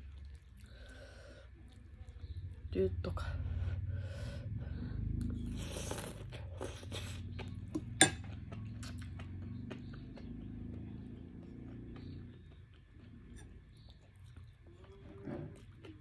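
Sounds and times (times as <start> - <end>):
wet chewing: 0.0 - 2.6, 5.2 - 16.0
low steady hum: 0.0 - 16.0.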